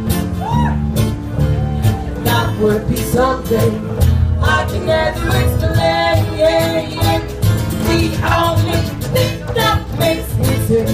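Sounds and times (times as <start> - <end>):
instrumental accompaniment: 0.0 - 10.9
person singing: 2.1 - 10.9.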